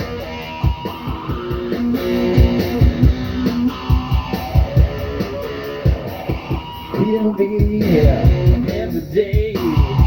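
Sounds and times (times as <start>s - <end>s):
guitar playing held chords: 0.0s - 10.0s.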